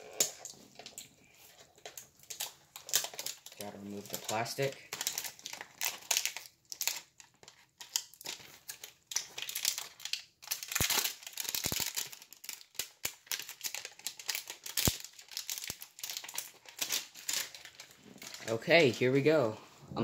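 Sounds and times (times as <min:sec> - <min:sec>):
plastic shrink wrap crinkling: 0:00.0 - 0:19.6.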